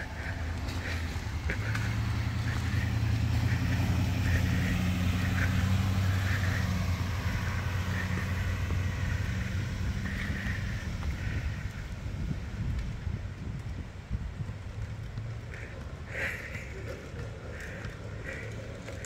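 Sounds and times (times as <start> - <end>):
truck engine passing: 0.0 - 12.8, 14.5 - 19.0.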